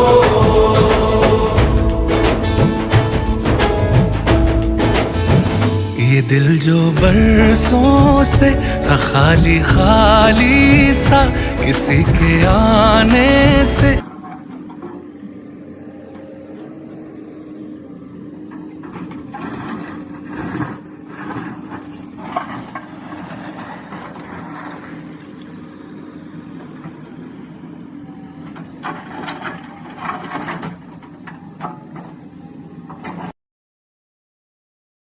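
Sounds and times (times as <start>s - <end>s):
diesel engine running: 0.0s - 33.2s.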